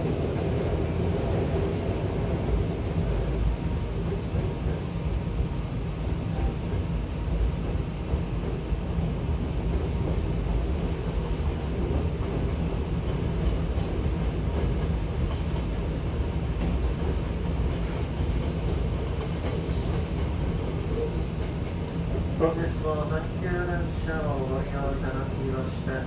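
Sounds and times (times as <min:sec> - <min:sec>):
train rumbling inside carriage: 0:00.0 - 0:26.0.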